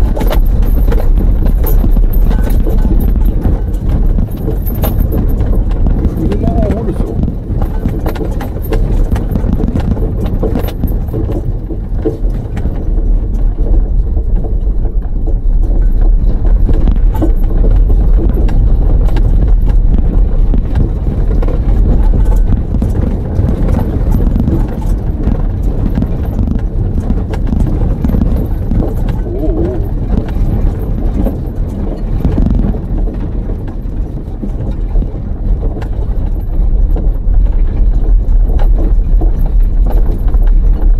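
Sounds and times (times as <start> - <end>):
car rumbling over dirt track: 0.0 - 40.9
knocks and rattles from bumps: 0.0 - 40.9.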